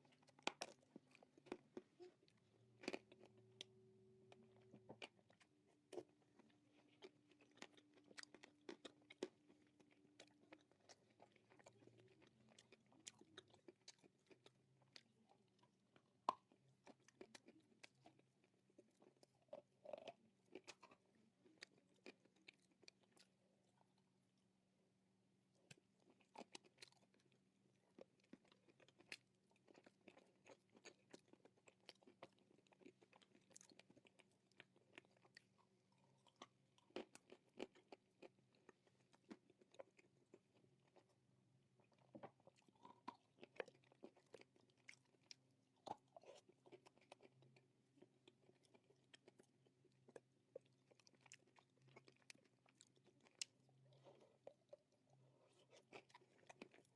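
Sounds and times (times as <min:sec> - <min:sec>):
crunching and chewing: 0:00.0 - 0:24.1, 0:25.5 - 0:56.9.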